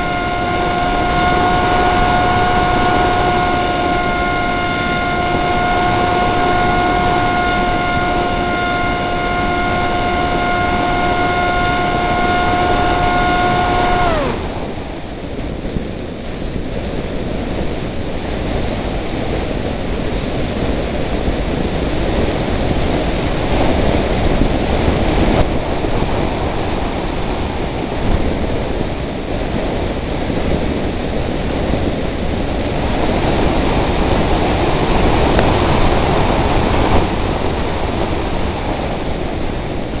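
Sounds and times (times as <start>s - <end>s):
electric motor and propeller whining: 0.0s - 16.4s, 22.0s - 29.9s, 31.4s - 40.0s
wind buffeting microphone: 0.0s - 40.0s.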